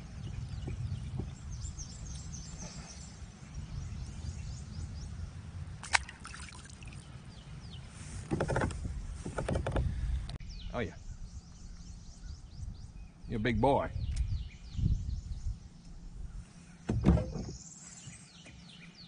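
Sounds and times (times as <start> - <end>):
wind rumbling on microphone: 0.0 - 17.6.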